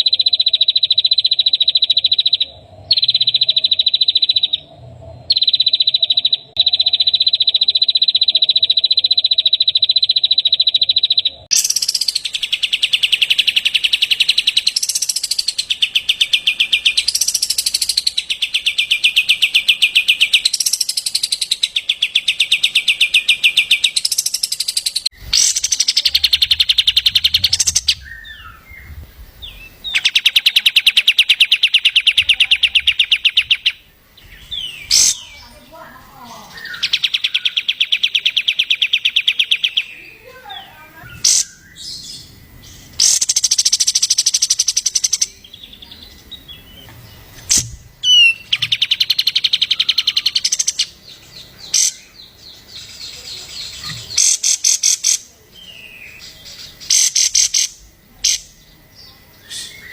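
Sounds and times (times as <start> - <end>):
songbird trilling: 0.0 - 59.9.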